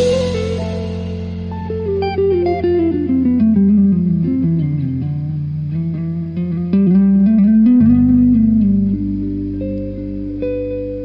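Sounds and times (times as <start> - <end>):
steady bass note: 0.0 - 10.1
plucked guitar music: 0.0 - 11.0.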